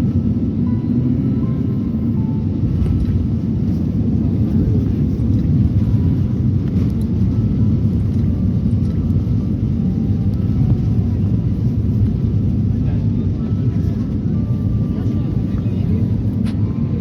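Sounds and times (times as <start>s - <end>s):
jet airliner cabin rumble: 0.0s - 17.0s.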